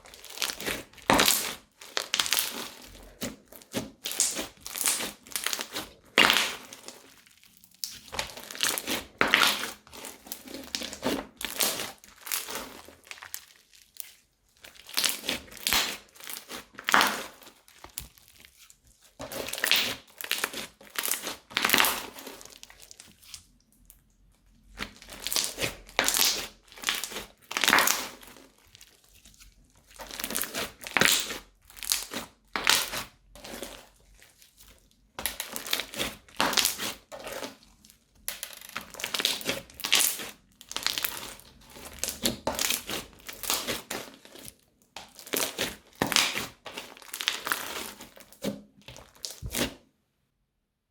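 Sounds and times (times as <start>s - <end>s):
crunchy slime crackling: 0.0s - 49.8s.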